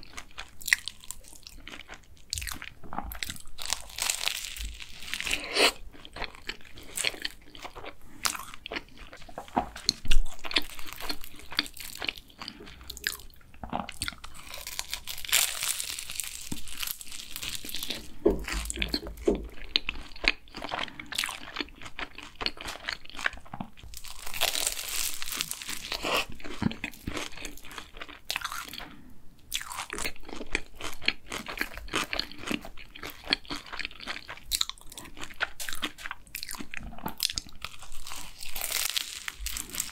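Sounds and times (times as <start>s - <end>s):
crunchy pastry chewing: 0.0s - 39.9s.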